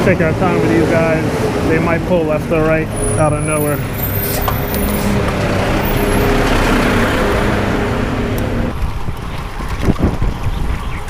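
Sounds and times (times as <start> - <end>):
vehicle engine droning: 0.0 - 9.6
street noise: 0.0 - 11.0
wind buffeting microphone: 0.0 - 11.0.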